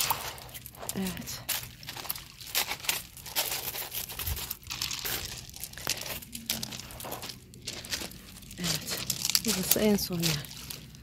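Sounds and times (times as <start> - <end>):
crackly rustling: 0.0 - 11.0
footsteps on loose ground: 0.0 - 11.0.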